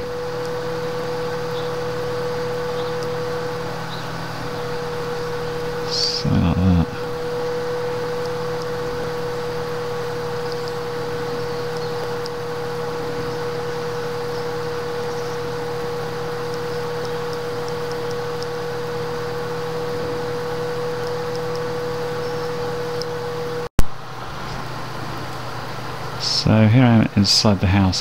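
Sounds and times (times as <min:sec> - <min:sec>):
electronic hum with whine: 0:00.0 - 0:28.0.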